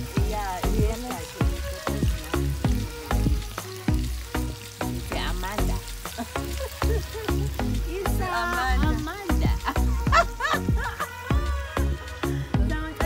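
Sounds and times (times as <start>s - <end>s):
bacon sizzling in a frying pan: 0.0s - 13.0s
music with deep bass: 0.0s - 13.0s.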